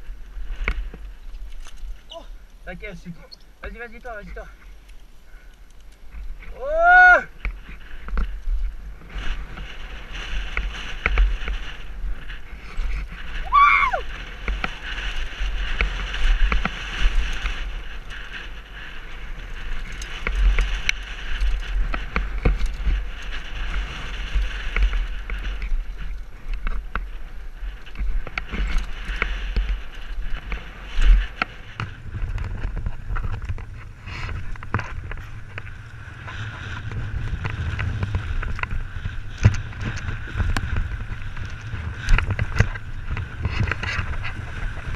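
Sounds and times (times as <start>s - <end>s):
bike rattling over stones: 0.0s - 44.9s
wind buffeting microphone: 0.0s - 44.9s.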